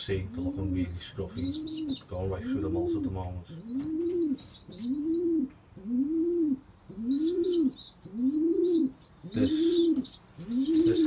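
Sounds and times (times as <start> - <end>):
birds chirping: 0.0 - 11.0
pigeons cooing: 0.1 - 11.0.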